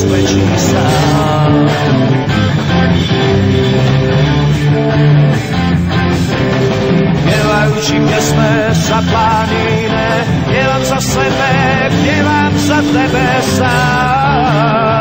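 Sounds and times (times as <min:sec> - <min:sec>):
instrumental rock music: 0:00.0 - 0:15.0.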